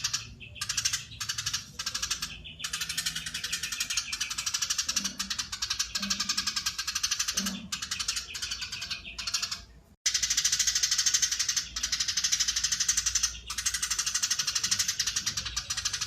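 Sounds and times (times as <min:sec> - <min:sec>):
sparrow chattering call: 0:00.0 - 0:16.0.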